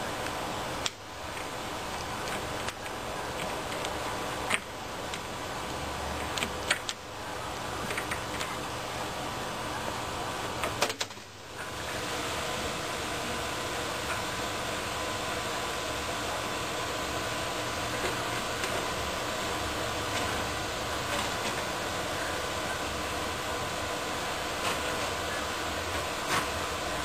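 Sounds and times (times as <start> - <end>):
background hum and hiss: 0.0 - 27.0.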